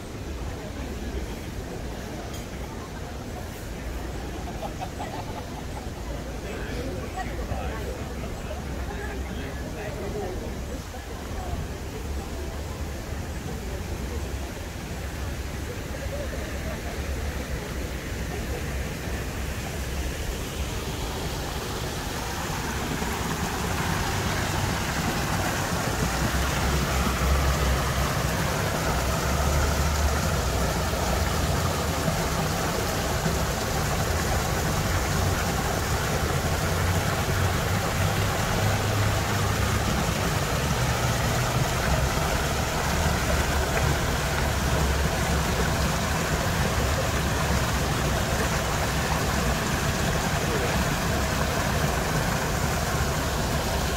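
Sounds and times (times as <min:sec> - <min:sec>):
low city rumble: 0:00.0 - 0:53.9
water rushing in a waterfall: 0:00.0 - 0:53.9.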